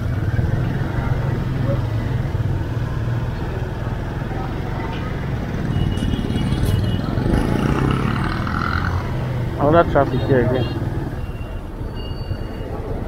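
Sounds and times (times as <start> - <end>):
slow street traffic: 0.0 - 13.0.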